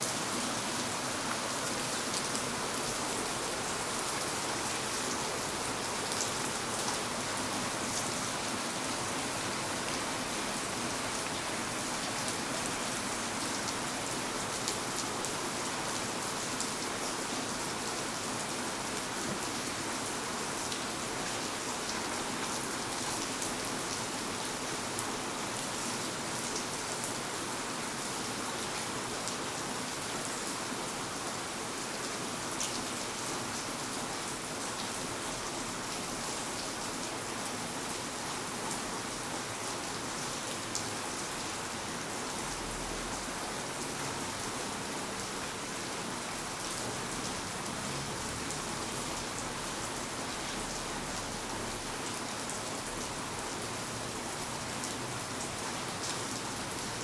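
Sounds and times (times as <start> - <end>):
rain pattering on hard surfaces: 0.1 - 57.0.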